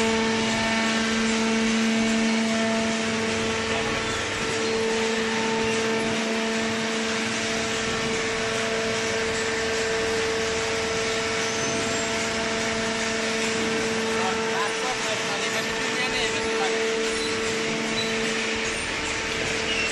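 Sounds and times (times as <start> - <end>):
hydraulic baler motor humming: 0.0 - 19.9.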